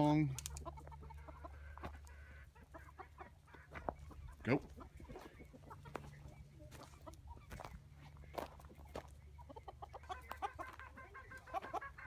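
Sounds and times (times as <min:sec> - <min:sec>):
chickens clucking: 0:00.0 - 0:12.0
footsteps on straw and dirt: 0:00.0 - 0:12.0.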